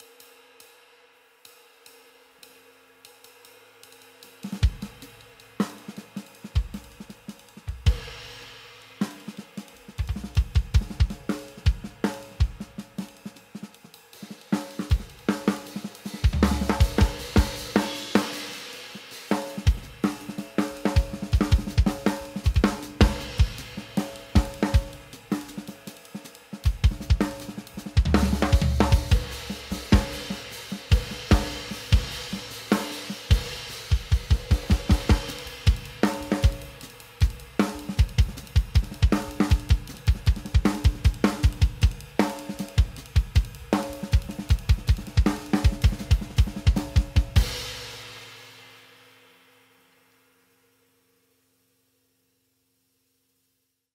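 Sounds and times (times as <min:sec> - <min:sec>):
sizzling cymbal strokes: 0:00.0 - 0:51.6
snare drum: 0:04.4 - 0:48.4.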